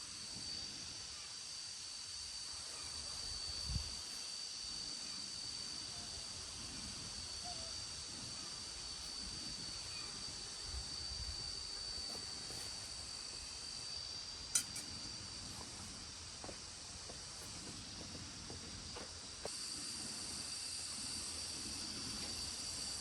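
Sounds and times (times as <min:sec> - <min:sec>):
shrill insect chorus: 0:00.0 - 0:23.0.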